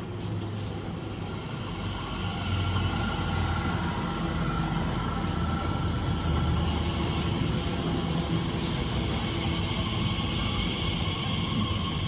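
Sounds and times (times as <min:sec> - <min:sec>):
electric train hum with whine: 0:00.0 - 0:12.0.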